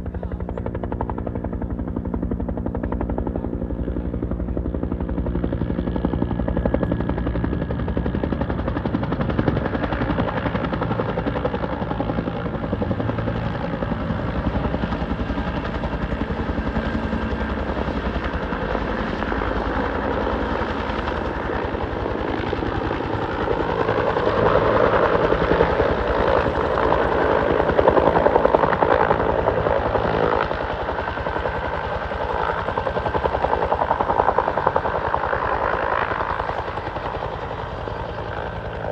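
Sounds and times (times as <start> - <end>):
helicopter engine whine: 0.0 - 38.9
helicopter rotor chopping: 0.0 - 38.9.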